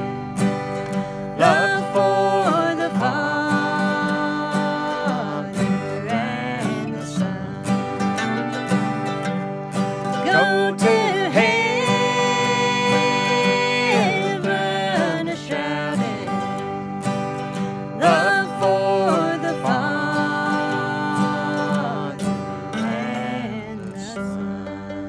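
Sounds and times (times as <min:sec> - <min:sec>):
acoustic guitars: 0:00.0 - 0:25.0
man and woman singing in harmony: 0:01.2 - 0:08.5, 0:10.1 - 0:25.0.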